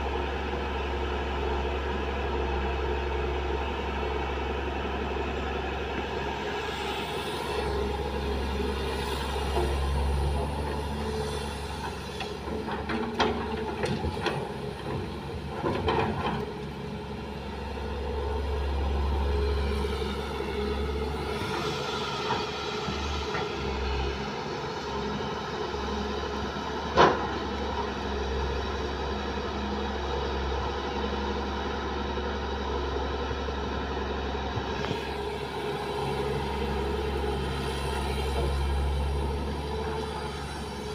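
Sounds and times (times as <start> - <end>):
excavator engine drone: 0.0 - 40.9.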